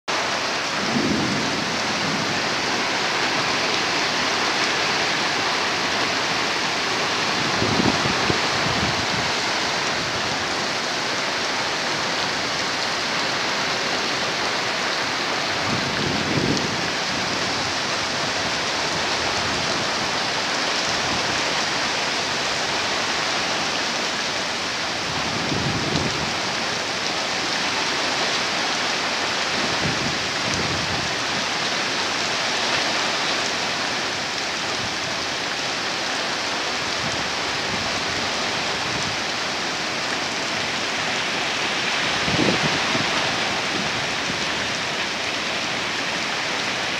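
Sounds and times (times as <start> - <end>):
heavy rain pouring: 0.0 - 46.9
wind gusts rumbling: 0.1 - 35.5, 36.5 - 46.9.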